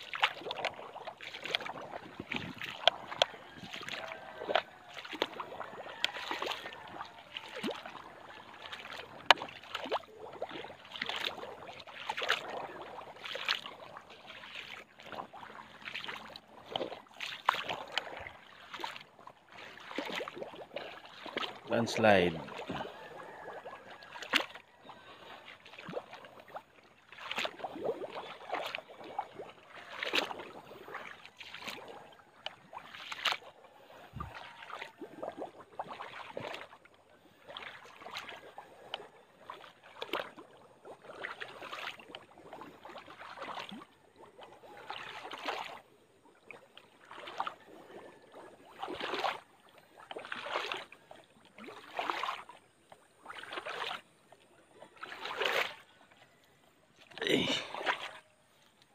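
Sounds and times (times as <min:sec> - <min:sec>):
footsteps sloshing through muddy water: 0:00.0 - 0:58.9.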